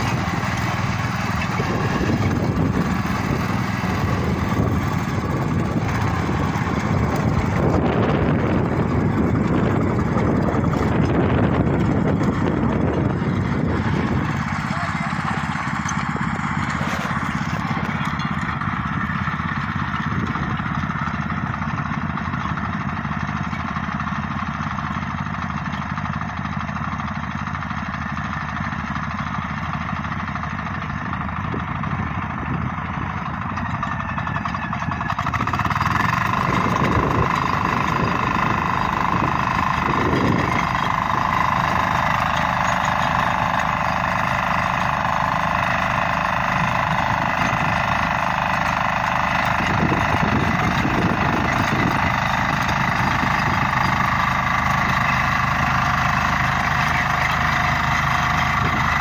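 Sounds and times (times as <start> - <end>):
motor tillers running: 0.0 - 59.0.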